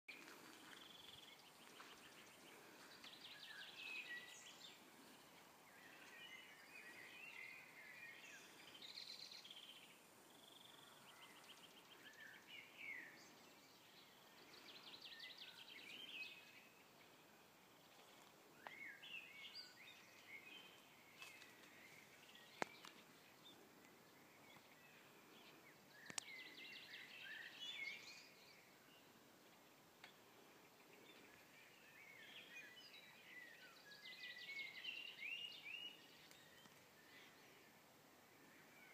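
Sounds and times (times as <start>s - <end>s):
faint songbirds chirping: 0.1s - 38.9s.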